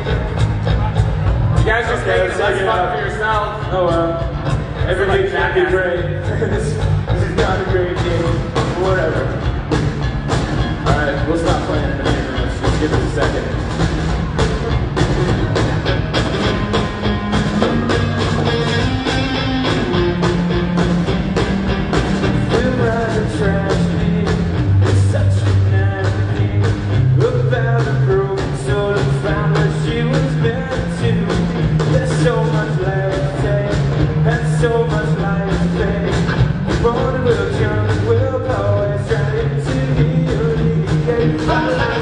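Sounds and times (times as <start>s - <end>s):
electric guitars: 0.0s - 42.0s
steady drum beat: 0.0s - 42.0s.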